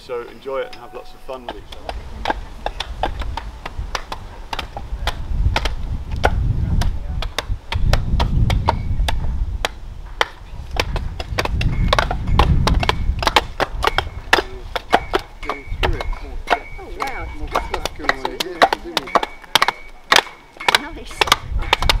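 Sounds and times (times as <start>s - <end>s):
axes chopping logs: 1.4s - 22.0s.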